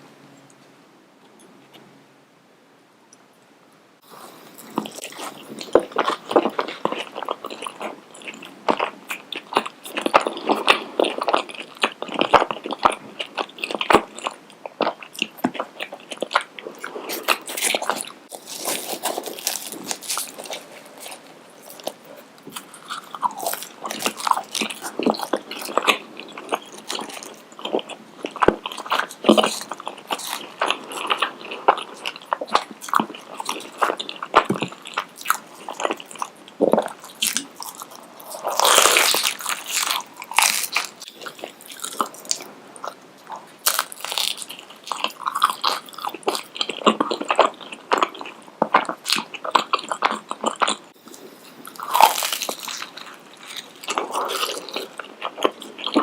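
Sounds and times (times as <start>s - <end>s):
crunchy biting and chewing: 4.0s - 56.0s.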